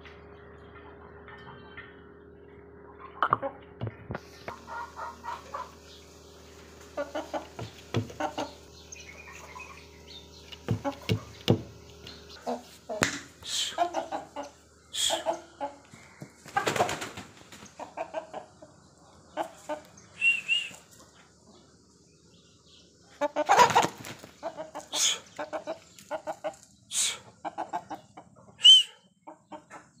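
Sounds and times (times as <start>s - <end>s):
chicken clucking: 2.9s - 3.6s, 4.2s - 21.8s, 23.1s - 30.0s.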